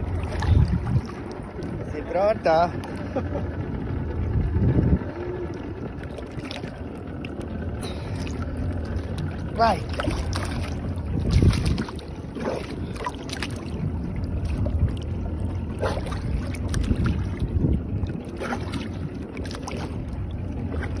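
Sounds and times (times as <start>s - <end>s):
water splashing against boat: 0.0s - 21.0s
wind rumbling on microphone: 0.0s - 21.0s.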